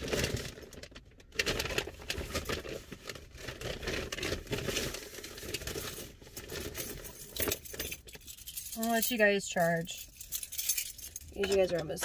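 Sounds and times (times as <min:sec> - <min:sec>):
rustling and crinkling: 0:00.0 - 0:12.0
small rattles and scrapes: 0:00.0 - 0:12.0.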